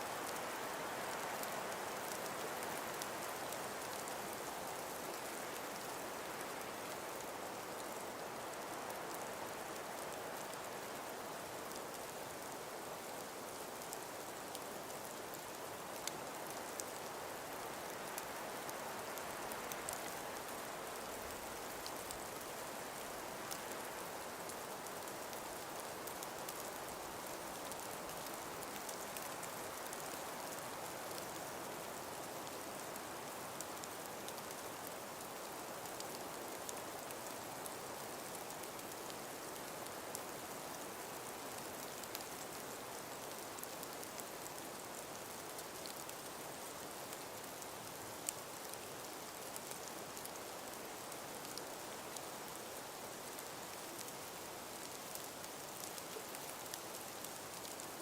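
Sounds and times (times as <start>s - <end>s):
breeze through forest: 0.0s - 58.0s
faint small ticks: 0.0s - 58.0s.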